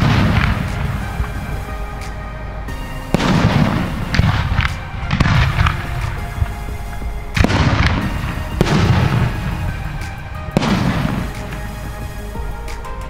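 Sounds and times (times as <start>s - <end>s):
fireworks bangs: 0.0s - 12.8s
echoing rumble: 0.0s - 13.0s.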